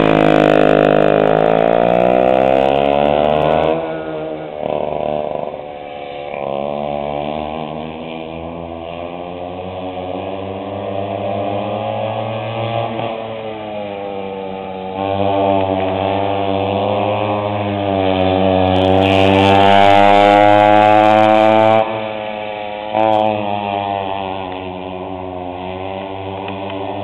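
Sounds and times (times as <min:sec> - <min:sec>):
go-kart two-stroke engine running: 0:00.0 - 0:27.0.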